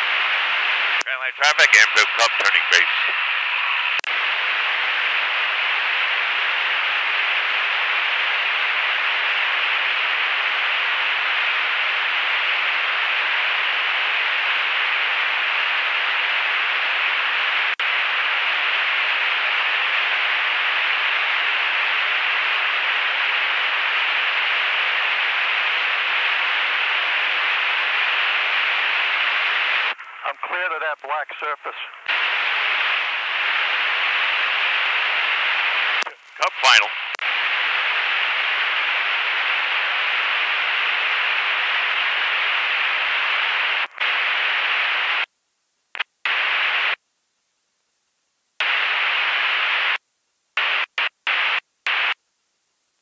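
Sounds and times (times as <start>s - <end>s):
steady headset hiss: 0.0s - 53.0s.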